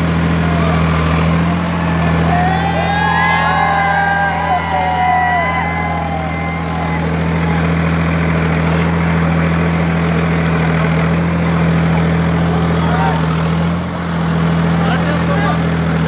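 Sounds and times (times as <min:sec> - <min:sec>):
crowd chatter: 0:00.0 - 0:16.0
tractor diesel engine running: 0:00.0 - 0:16.0.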